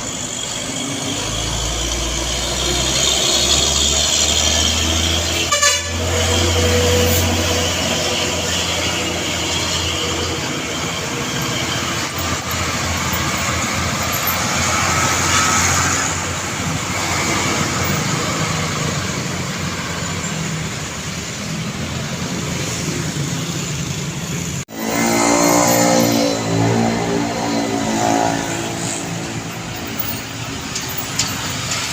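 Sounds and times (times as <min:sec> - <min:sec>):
trucks and cars passing: 0:00.0 - 0:31.9.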